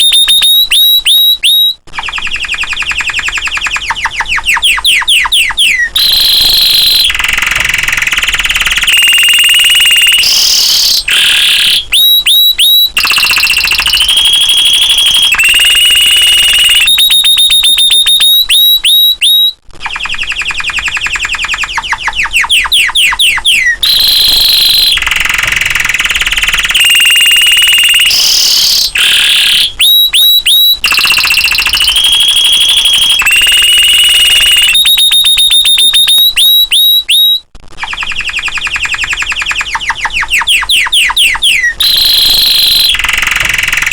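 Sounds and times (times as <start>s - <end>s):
canary singing with trills: 0.0s - 43.9s.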